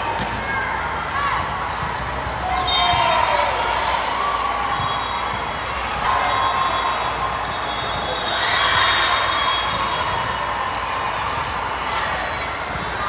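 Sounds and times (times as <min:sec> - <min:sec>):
court noise: 0:00.0 - 0:13.0.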